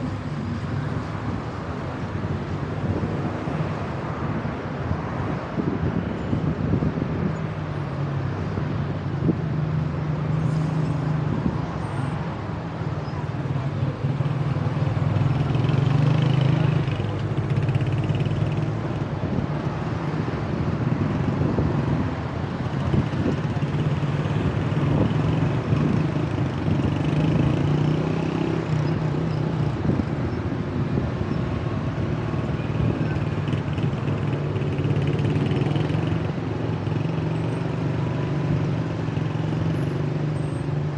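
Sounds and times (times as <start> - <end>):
rush of nearby cars: 0.0 - 40.9.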